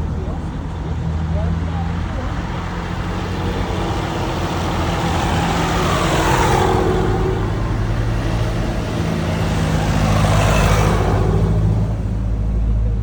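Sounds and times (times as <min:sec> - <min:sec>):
tractor engines running: 0:00.0 - 0:13.0
vehicles driving past: 0:00.0 - 0:13.0.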